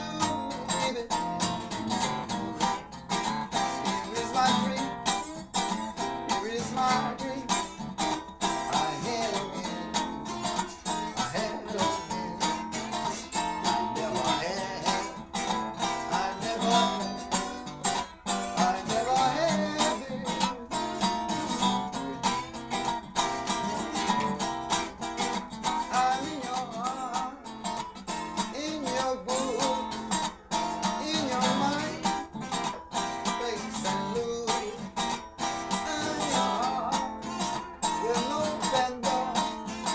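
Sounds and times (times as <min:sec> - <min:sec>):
strummed and plucked guitar: 0:00.0 - 0:39.9.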